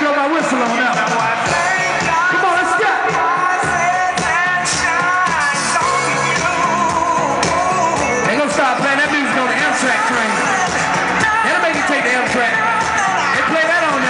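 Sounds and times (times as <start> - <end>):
steady beat: 0.4 - 14.0
person singing: 0.9 - 14.0.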